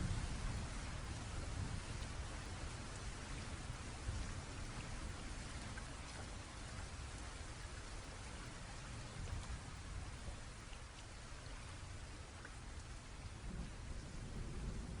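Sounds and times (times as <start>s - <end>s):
raindrop ticks: 0.0s - 15.0s
steady rain hiss: 0.0s - 15.0s.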